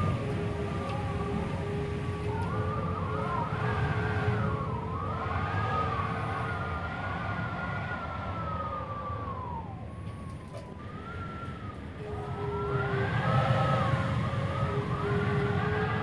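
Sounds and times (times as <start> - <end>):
deep wind rumble: 0.0 - 16.0
wind howling whistle: 0.0 - 16.0.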